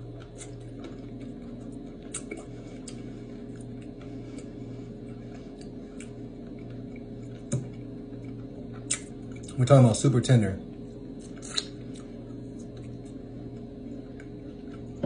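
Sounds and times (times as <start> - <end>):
person chewing bone crunching: 0.0 - 9.6, 11.0 - 15.0
steady low hum: 0.0 - 15.0.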